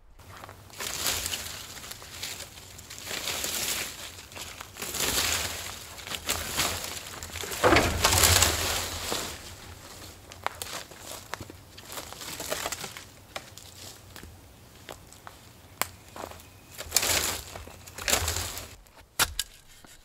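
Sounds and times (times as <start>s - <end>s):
rake scraping dry leaves: 0.2s - 14.0s, 16.1s - 18.8s.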